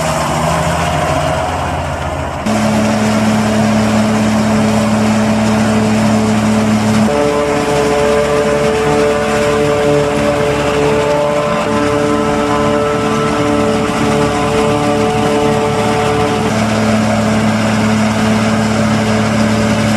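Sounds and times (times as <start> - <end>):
tractor engine running: 0.0 - 19.9
forage harvester chopping corn: 1.9 - 19.9.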